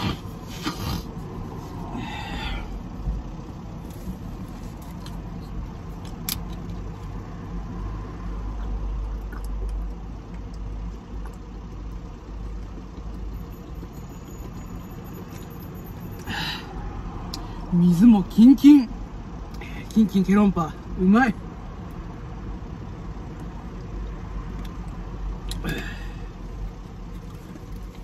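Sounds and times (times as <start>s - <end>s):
road traffic rumbling: 0.0s - 28.0s.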